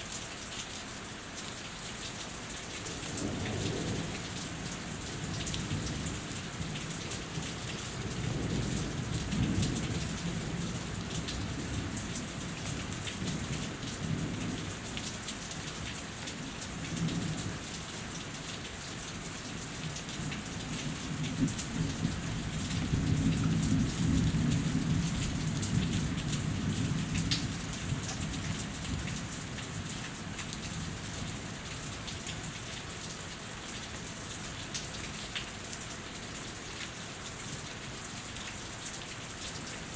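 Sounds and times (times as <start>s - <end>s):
rain dripping off roof: 0.0s - 39.9s.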